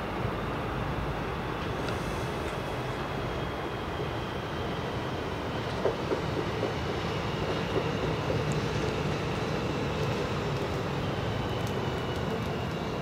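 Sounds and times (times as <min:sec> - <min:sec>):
train rolling rumble: 0:00.0 - 0:13.0.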